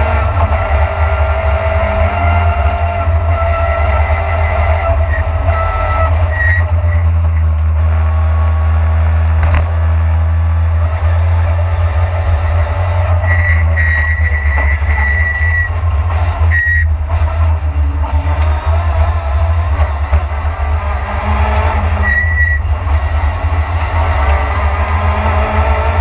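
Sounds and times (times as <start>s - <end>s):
high whine: 0.0s - 26.0s
rally car engine running hard: 0.0s - 26.0s
road noise: 0.0s - 26.0s.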